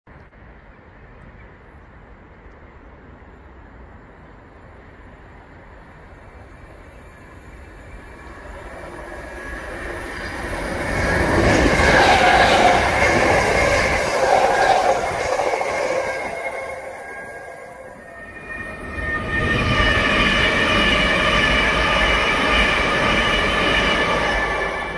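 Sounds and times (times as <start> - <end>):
high whine of train: 0.2 - 24.9
train passing with rumble: 0.3 - 24.9.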